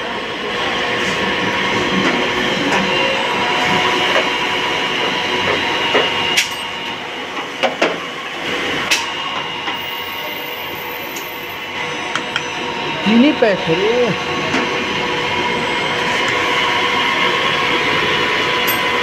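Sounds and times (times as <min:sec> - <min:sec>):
drilling machine hum and whine: 0:00.0 - 0:19.0.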